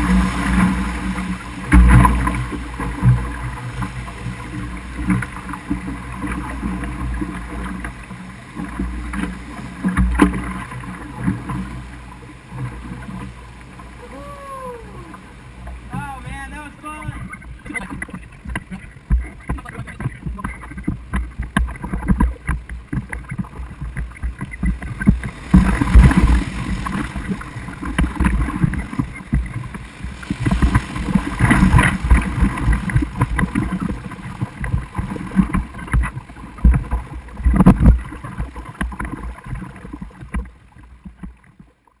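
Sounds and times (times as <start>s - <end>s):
river water rushing and splashing: 0.0s - 41.6s
wind rumbling on microphone: 0.0s - 41.7s.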